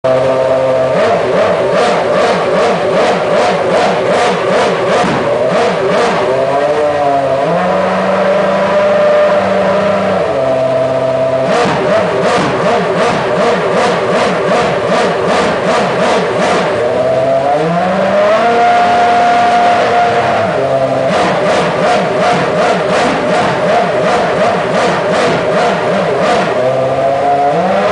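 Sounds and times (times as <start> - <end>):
racing car engine revving: 0.0 - 27.9.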